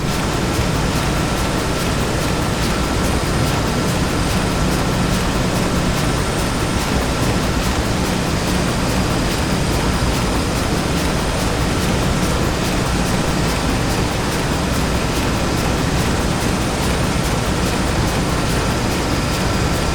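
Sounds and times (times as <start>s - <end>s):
rapid regular ticking: 0.0s - 19.9s.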